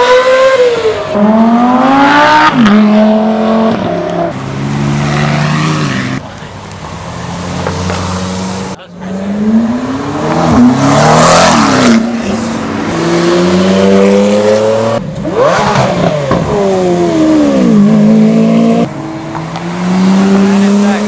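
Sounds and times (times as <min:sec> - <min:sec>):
cars accelerating past: 0:00.0 - 0:06.2, 0:06.8 - 0:21.0.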